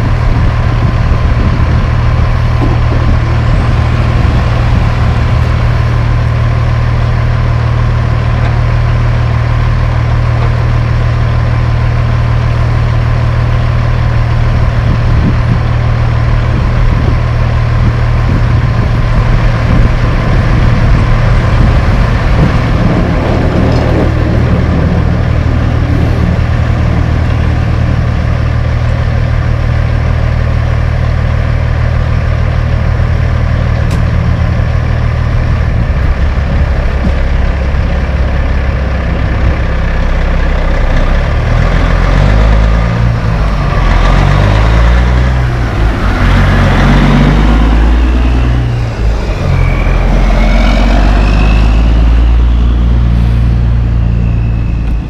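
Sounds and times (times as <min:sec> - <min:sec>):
diesel truck engine idling: 0:00.0 - 0:55.0
truck accelerating and shifting: 0:00.0 - 0:55.0.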